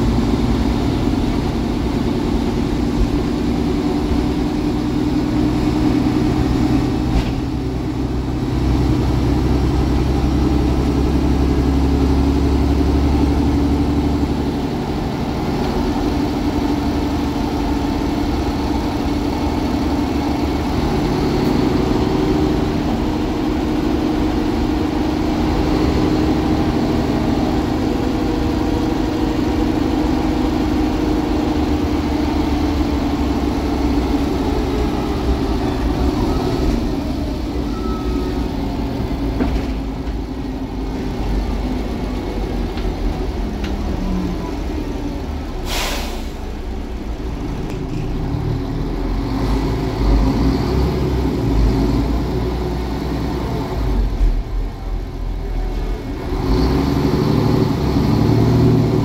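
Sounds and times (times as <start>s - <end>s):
bus diesel engine drone: 0.0s - 59.0s
road and tyre noise: 0.0s - 59.0s.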